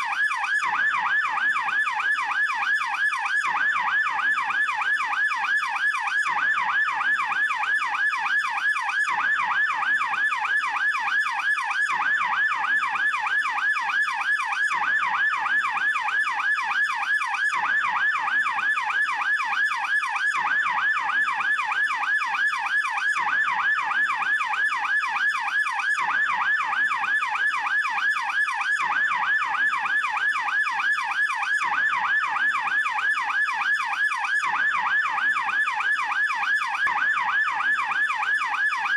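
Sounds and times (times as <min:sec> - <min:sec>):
police siren rapid warble: 0:00.0 - 0:38.9.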